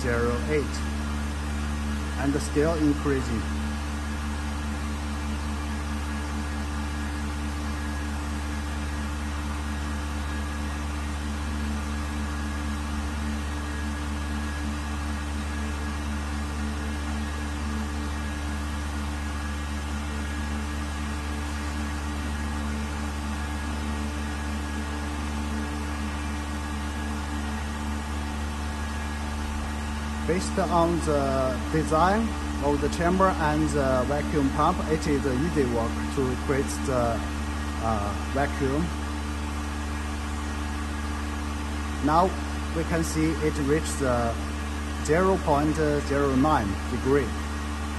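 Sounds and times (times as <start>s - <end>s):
vacuum pump humming: 0.0s - 47.9s.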